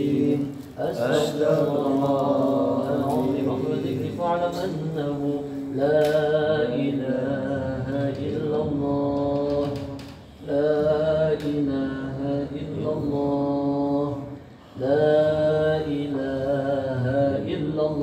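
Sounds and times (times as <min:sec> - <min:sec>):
men chanting: 0:00.0 - 0:18.0.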